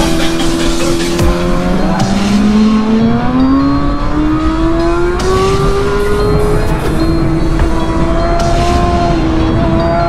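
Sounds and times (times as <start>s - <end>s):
motorcycle engine revving at full throttle: 0.0s - 10.0s.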